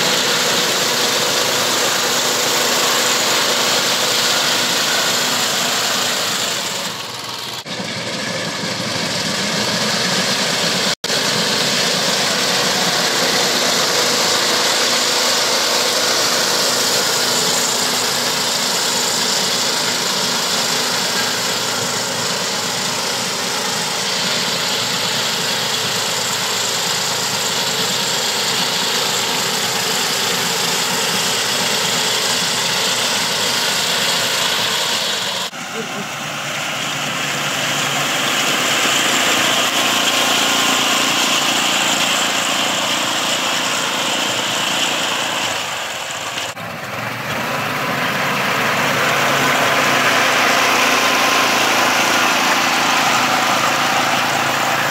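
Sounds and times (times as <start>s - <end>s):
small petrol engine running: 0.0s - 54.9s.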